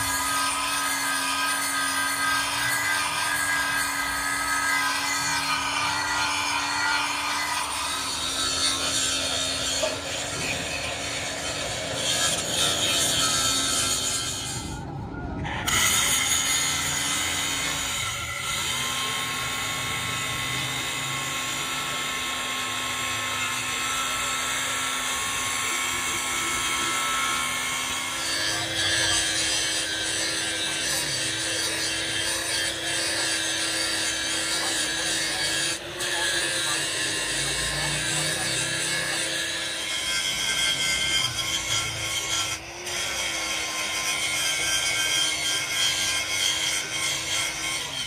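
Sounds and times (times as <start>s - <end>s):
angle grinder grinding metal: 0.0s - 48.0s.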